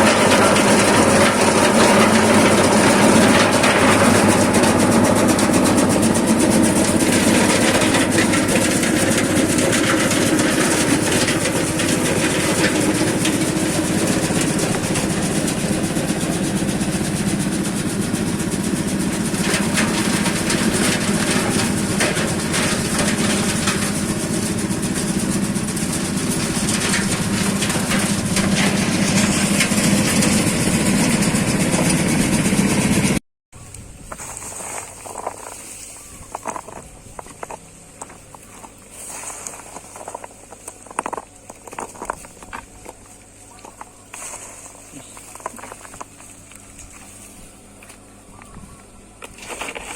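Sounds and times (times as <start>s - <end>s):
threshing machine humming and rattling: 0.0s - 49.9s.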